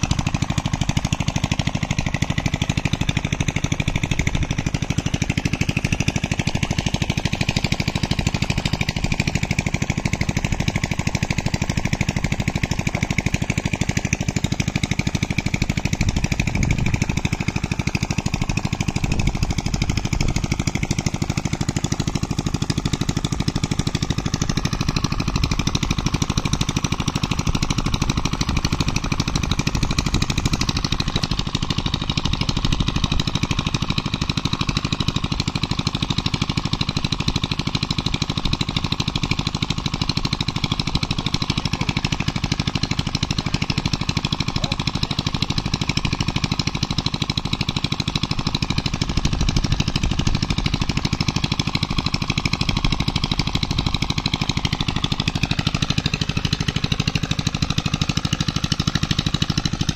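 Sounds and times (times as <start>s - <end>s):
small engine idling with knocking: 0.0s - 59.9s.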